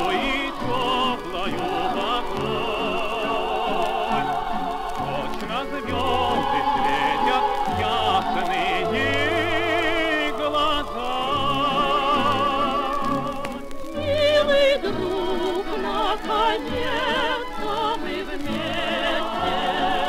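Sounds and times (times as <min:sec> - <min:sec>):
old record of choir and orchestra: 0:00.0 - 0:20.0.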